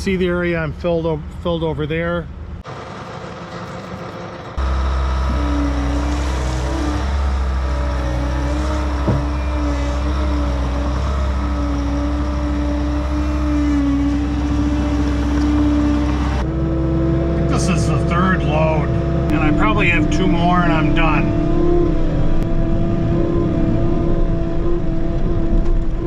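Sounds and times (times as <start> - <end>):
diesel engine drone: 0.0 - 26.0
wavering whine: 2.6 - 26.0.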